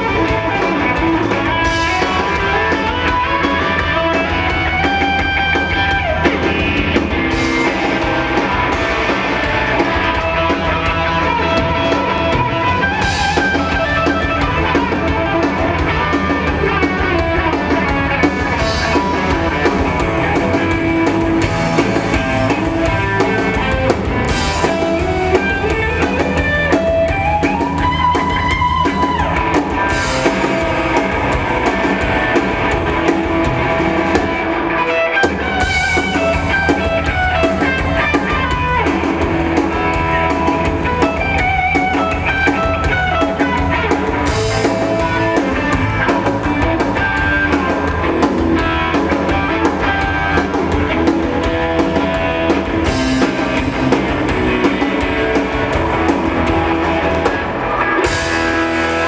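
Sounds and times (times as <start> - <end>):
electric guitar lead: 0.0 - 59.0
live blues-rock band: 0.0 - 59.0.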